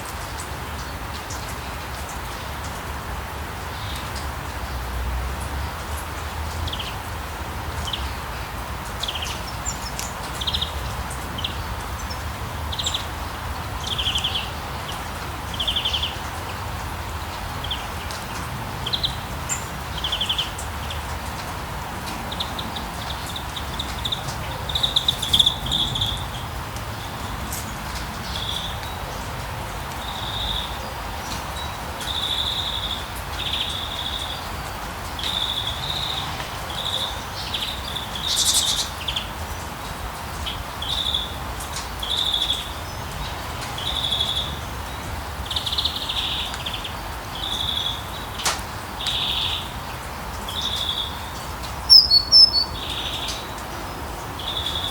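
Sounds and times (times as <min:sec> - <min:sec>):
steady rain: 0:00.0 - 0:54.9
small birds chirping: 0:07.7 - 0:54.9.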